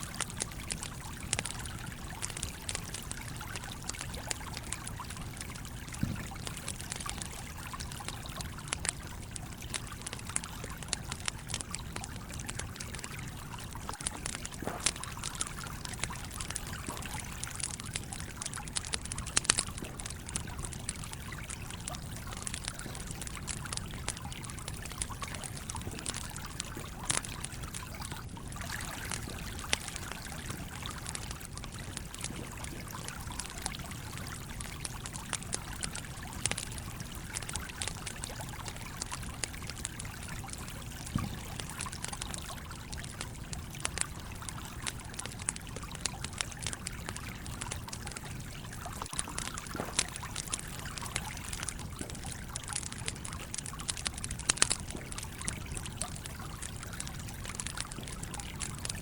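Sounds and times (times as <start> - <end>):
campfire crackling and popping: 0.0 - 59.0
stream trickling: 0.0 - 59.0.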